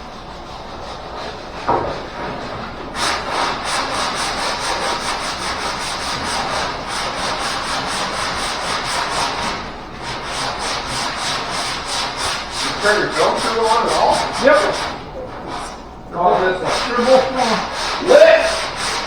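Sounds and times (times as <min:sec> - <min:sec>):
sandpaper rubbing back and forth: 0:00.0 - 0:19.0.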